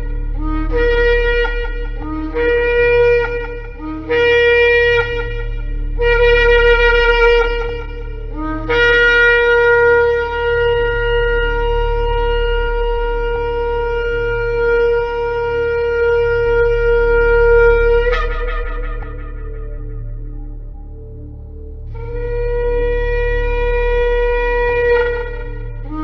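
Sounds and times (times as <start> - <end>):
shofar blasts: 0.0 - 21.3, 21.9 - 26.0.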